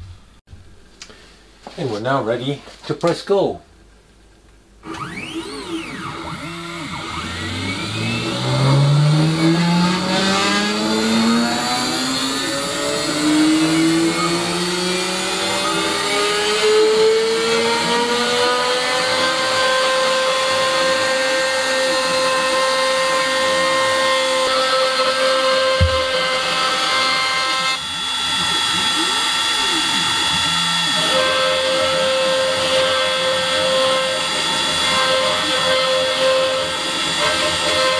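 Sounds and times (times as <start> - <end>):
router spindle motor whine: 4.8 - 37.9.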